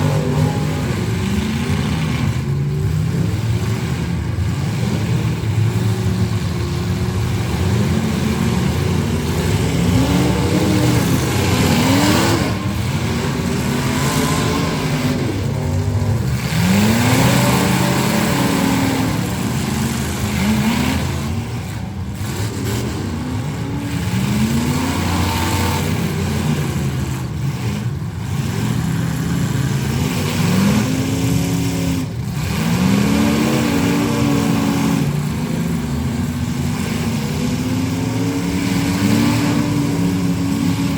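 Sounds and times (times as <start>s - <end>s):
car engines revving: 0.0s - 40.9s
rumble of several engines: 0.0s - 40.9s.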